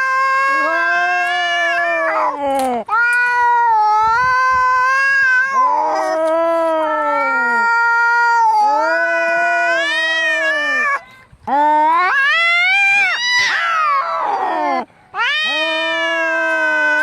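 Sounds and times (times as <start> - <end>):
cats yowling: 0.0 - 17.0.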